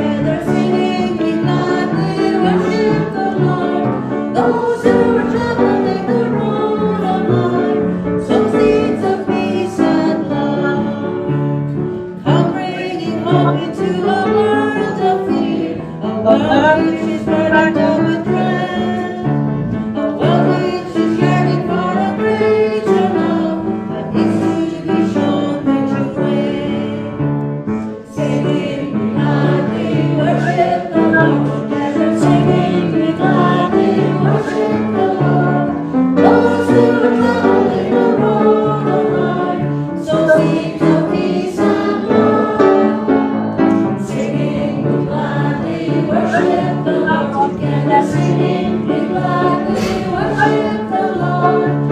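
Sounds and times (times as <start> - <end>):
congregation singing a hymn: 0.0 - 51.9.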